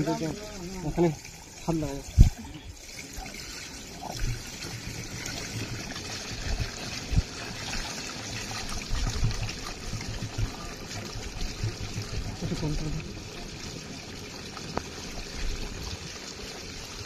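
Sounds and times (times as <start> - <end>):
liquid pouring into metal funnel: 0.0 - 17.0.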